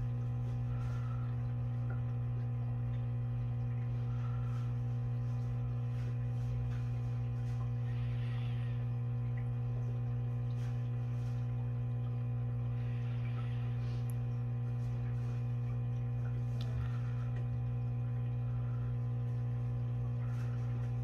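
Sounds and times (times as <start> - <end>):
aquarium pump humming: 0.0 - 21.0.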